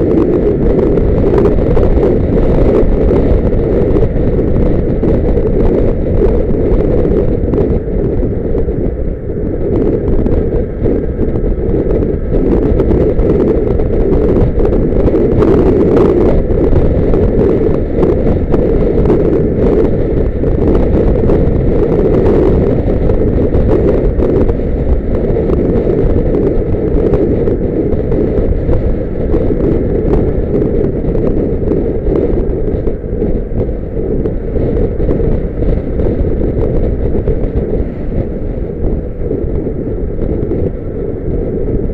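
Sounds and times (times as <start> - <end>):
vehicle rumble: 0.0 - 41.9
wind buffeting microphone: 0.0 - 41.9.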